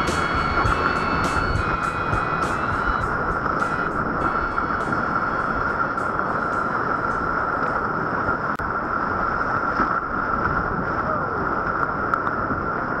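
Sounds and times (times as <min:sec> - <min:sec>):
water splashing: 0:00.0 - 0:13.0
whitewater rapids rushing: 0:00.0 - 0:13.0
wind on microphone: 0:00.0 - 0:13.0.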